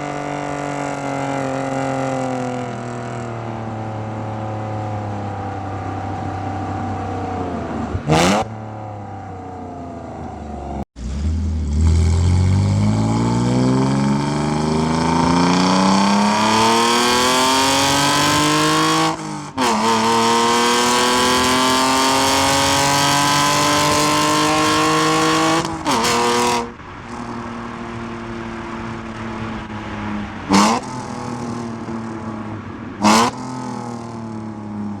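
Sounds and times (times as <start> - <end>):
car exhaust accelerating: 0.0 - 35.0.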